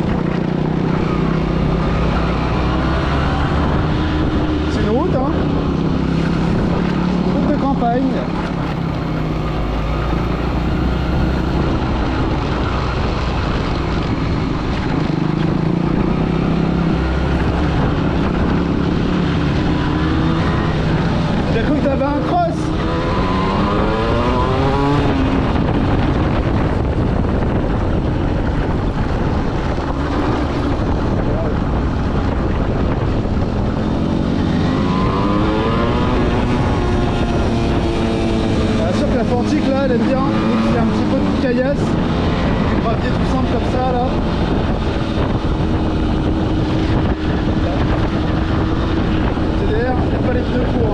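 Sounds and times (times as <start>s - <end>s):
motorcycle engine cruising: 0.0s - 50.9s
wind rush on microphone: 0.0s - 50.9s.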